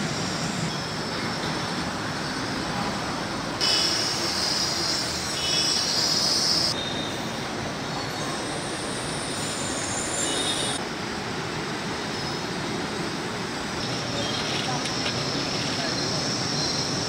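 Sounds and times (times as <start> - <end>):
high-pitched hiss: 0.0 - 17.0
road traffic noise: 0.0 - 17.0.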